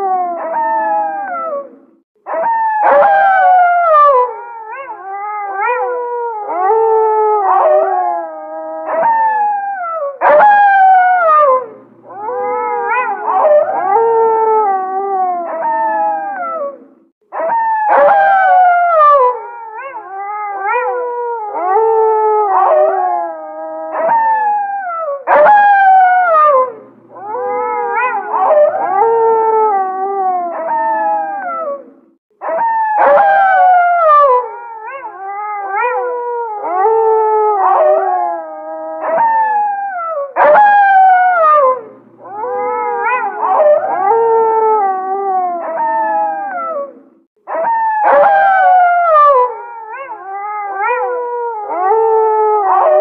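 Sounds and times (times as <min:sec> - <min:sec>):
wolves howling in chorus: 0:00.0 - 0:53.0.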